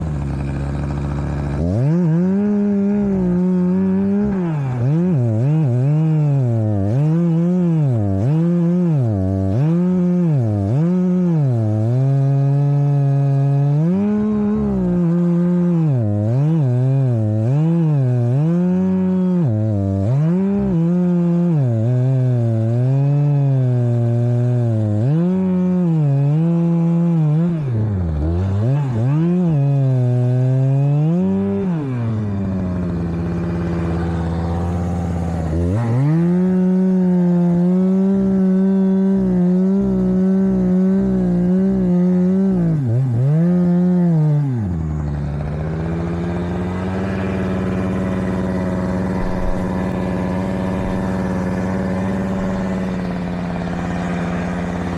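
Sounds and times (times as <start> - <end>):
chainsaw cutting: 0.0 - 54.9.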